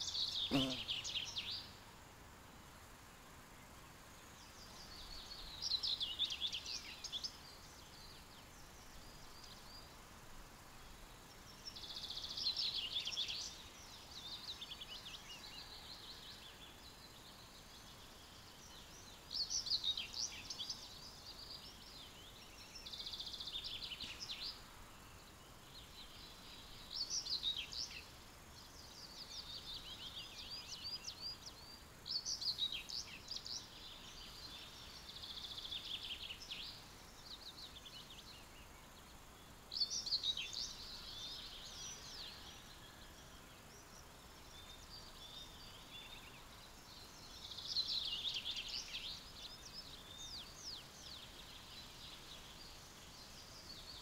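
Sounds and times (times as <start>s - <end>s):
faint steady hiss: 0.0s - 54.0s
songbirds chirping: 0.0s - 54.0s.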